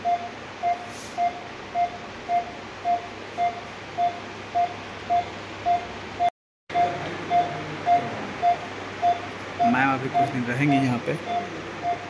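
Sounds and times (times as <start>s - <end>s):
patient monitor beeping: 0.0s - 12.0s.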